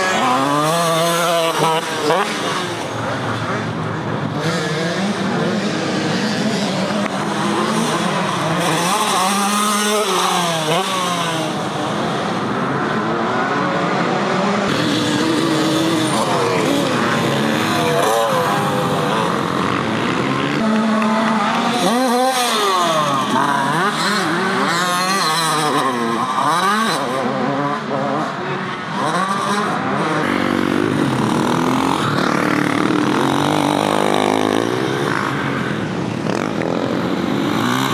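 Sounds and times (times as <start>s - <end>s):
motocross bikes revving: 0.0s - 37.9s.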